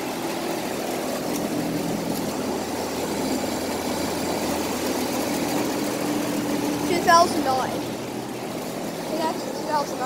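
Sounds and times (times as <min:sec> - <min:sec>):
air conditioner fan whoosh: 0:00.0 - 0:10.0
low mechanical hum: 0:00.0 - 0:10.0.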